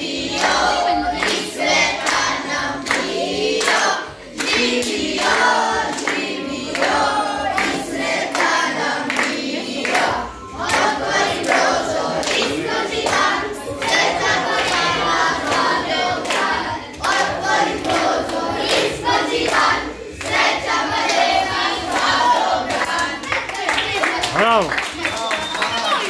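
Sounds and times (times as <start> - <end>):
children singing in chorus: 0.0 - 24.1
hands clapping: 1.2 - 7.0, 7.6 - 20.5, 21.9 - 26.0.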